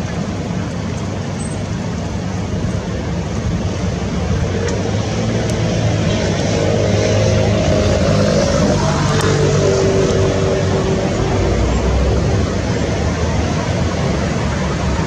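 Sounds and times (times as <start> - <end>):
noisy background: 0.0 - 15.0
propeller plane flying past: 2.8 - 15.0.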